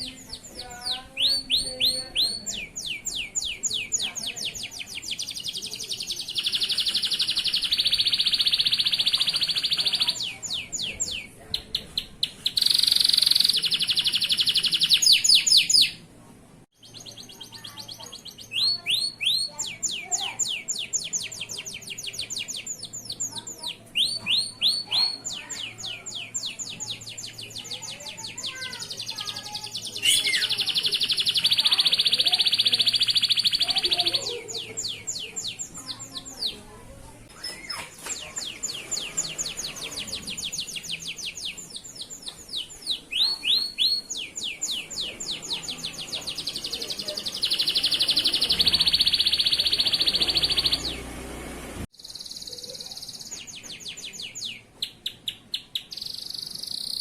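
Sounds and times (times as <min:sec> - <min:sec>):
canary singing trills: 0:00.0 - 0:16.1, 0:16.8 - 0:57.0.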